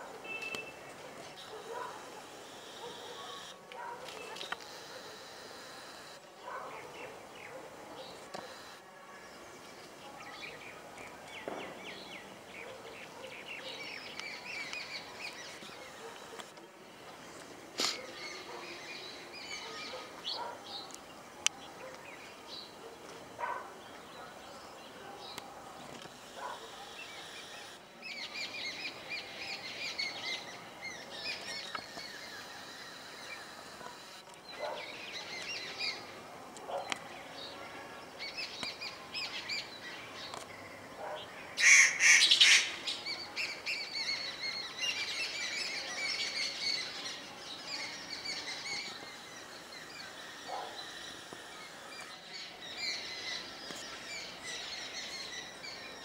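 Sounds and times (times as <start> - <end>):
birds chirping: 0.0 - 56.0
outdoor background noise: 0.0 - 56.0.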